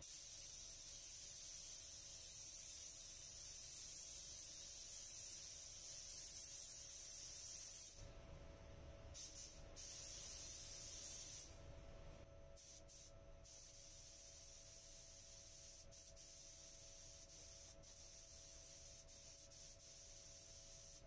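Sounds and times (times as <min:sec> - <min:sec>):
paint spray gun hissing: 0:00.0 - 0:08.0, 0:09.2 - 0:11.5, 0:12.6 - 0:21.0.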